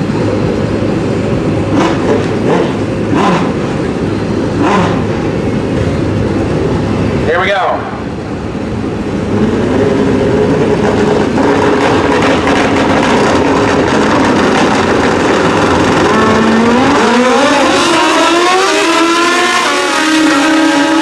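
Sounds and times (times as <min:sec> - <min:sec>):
motorcycle engines running loud: 0:00.0 - 0:21.0.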